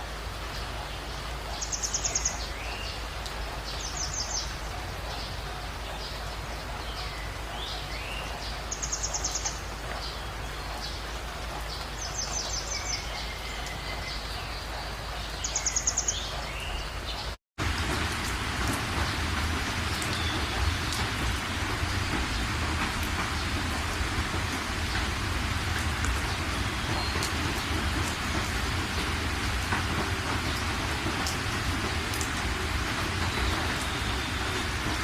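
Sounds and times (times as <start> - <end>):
rain hiss: 0.0 - 35.0.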